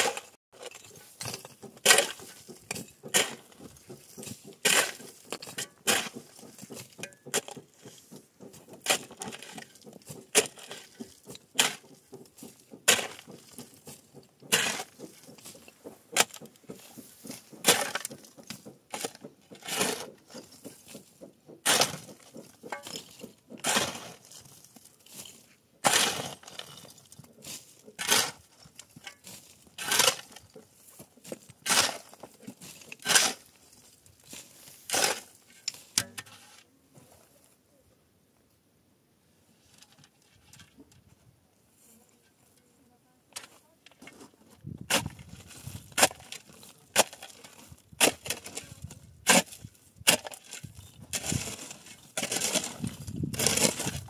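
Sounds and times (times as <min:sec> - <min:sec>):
shovel scraping rubble: 0:00.0 - 0:36.7, 0:43.4 - 0:54.0.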